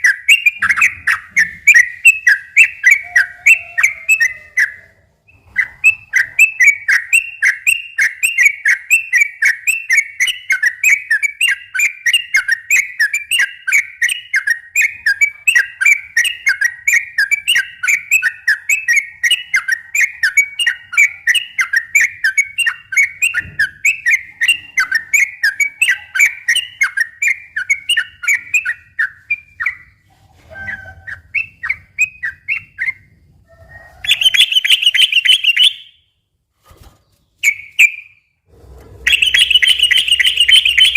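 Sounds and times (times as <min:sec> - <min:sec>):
bird chattering song: 0:00.0 - 0:30.0, 0:34.0 - 0:36.0, 0:38.8 - 0:40.9.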